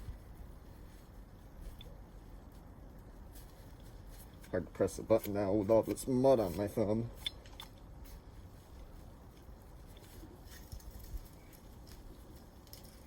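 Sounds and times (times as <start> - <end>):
faint low background hum: 0.0 - 13.0.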